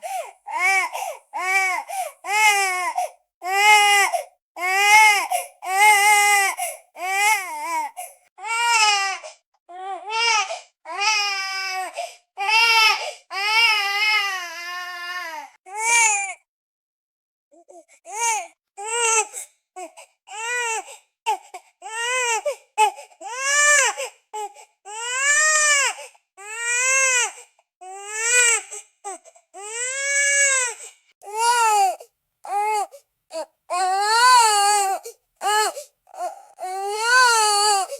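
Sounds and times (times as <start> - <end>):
infant crying: 0.0 - 16.4, 18.1 - 37.9.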